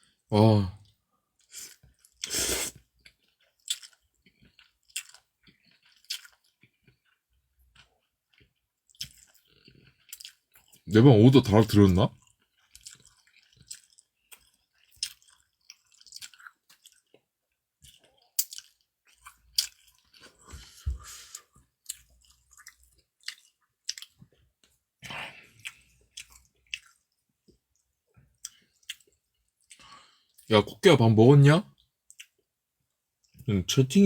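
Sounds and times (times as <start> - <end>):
person chewing food: 0.0 - 10.8, 12.2 - 30.5, 31.8 - 33.5.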